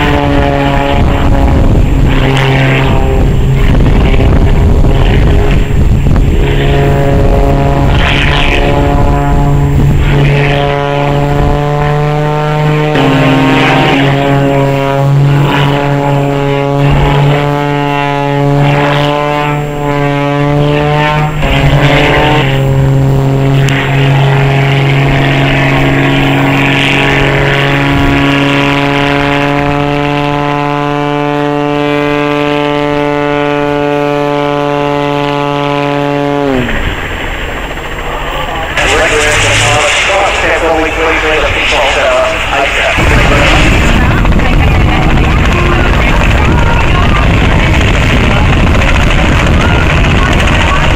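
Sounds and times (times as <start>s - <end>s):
propeller plane engine droning: 0.0s - 50.9s.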